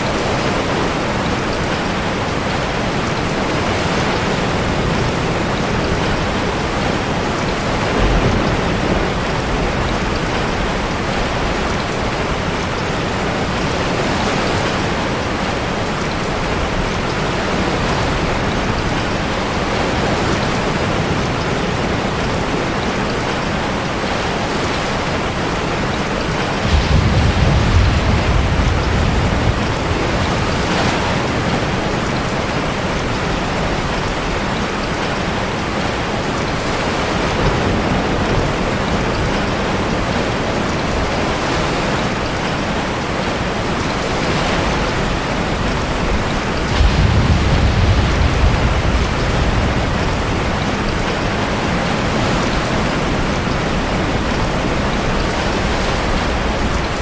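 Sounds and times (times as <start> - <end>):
heavy rain: 0.0 - 57.0
sea waves crashing: 0.0 - 57.0.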